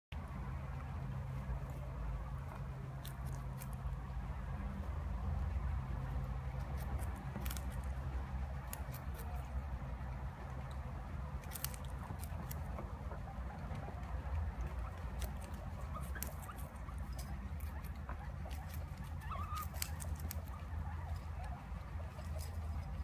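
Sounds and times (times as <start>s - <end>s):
guinea pigs crunching carrot: 0.1s - 23.0s
steady low hum: 0.1s - 23.0s.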